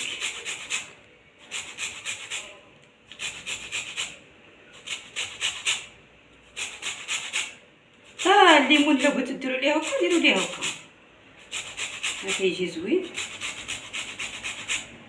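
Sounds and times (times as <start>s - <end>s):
peel rasping on a grater: 0.0s - 4.2s, 4.8s - 10.8s, 11.4s - 15.0s.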